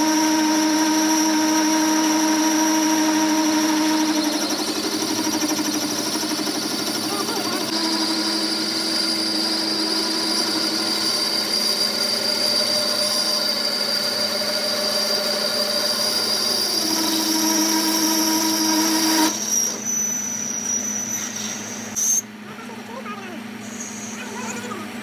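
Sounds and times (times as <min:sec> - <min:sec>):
power tool whining: 0:00.0 - 0:22.4.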